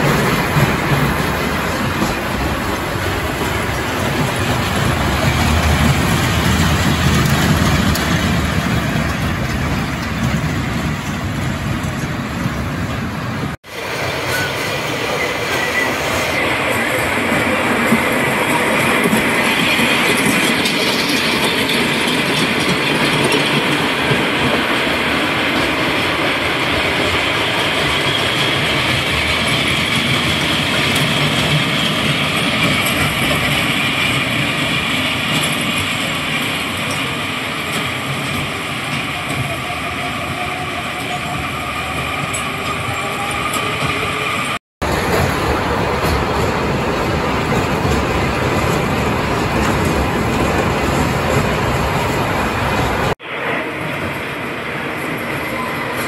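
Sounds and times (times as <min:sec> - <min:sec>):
coaster wheels rattling on rails: 0:00.0 - 0:53.2.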